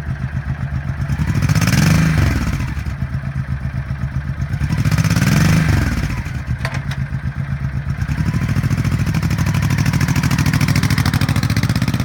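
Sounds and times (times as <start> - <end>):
motorcycle engine idling: 0.0 - 12.0
motorcycle engine revving: 0.0 - 12.0.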